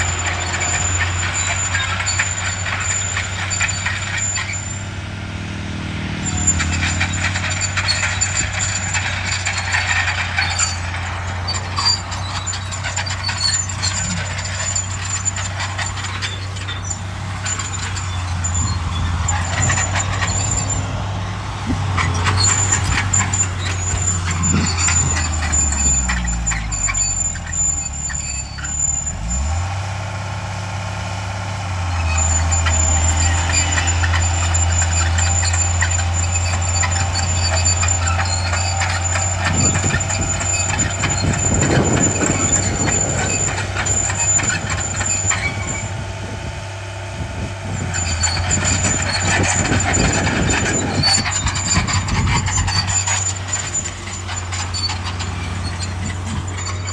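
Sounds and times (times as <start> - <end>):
diesel engine drone: 0.0 - 56.9
machinery clanking and rattling: 0.0 - 56.9.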